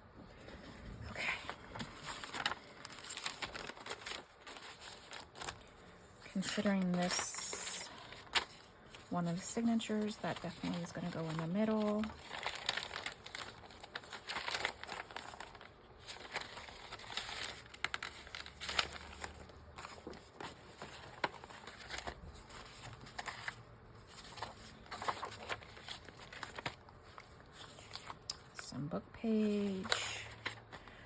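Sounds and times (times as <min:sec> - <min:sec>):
paper rustling and crinkling: 0:00.2 - 0:31.0.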